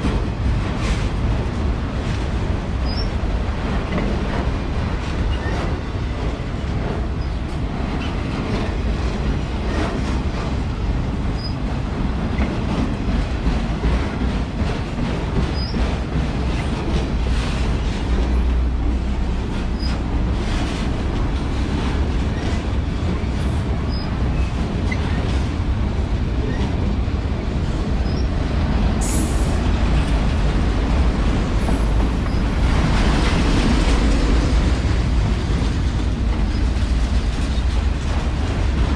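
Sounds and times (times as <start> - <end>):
freight train rumbling: 0.0 - 38.9.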